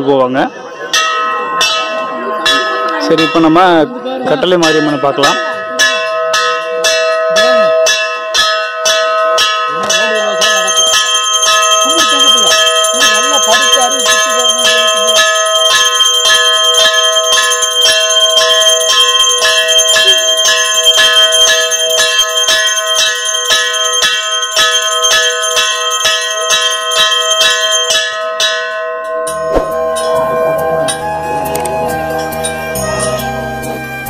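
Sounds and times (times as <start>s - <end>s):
brass temple bells ringing: 0.0s - 34.0s.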